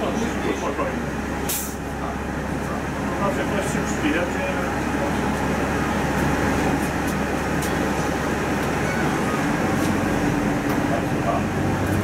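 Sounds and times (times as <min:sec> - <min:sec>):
bus engine hum: 0:00.0 - 0:12.0
road noise: 0:00.0 - 0:12.0.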